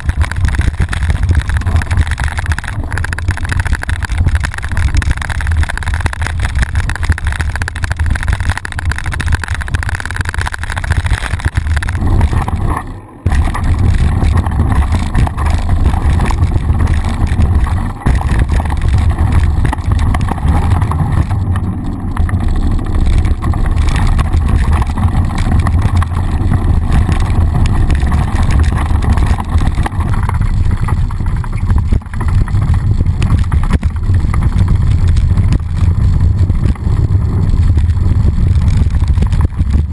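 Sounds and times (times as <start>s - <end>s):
bike tyres on dirt trail: 0.0s - 39.9s
wind rumble on microphone: 0.0s - 39.9s.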